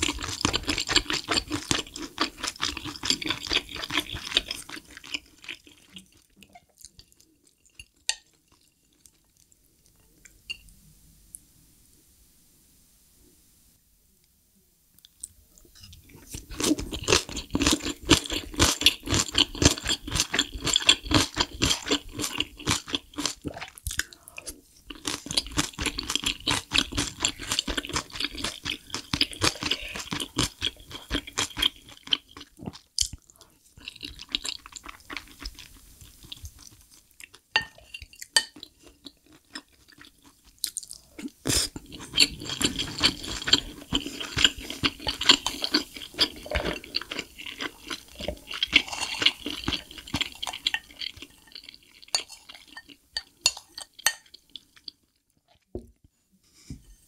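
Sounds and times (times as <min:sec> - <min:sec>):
close-miked chewing: 0:00.0 - 0:10.4, 0:15.0 - 0:55.7.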